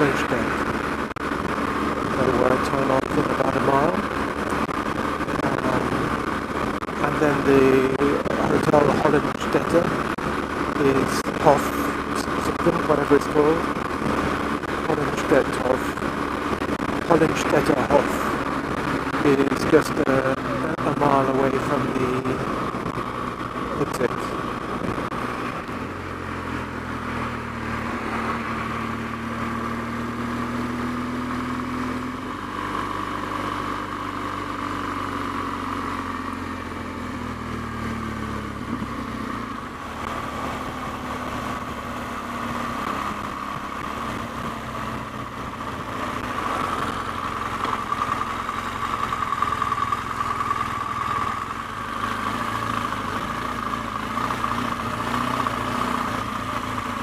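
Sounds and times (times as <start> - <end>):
motorcycle engine running: 0.0 - 57.0
road noise rushing: 0.0 - 57.0.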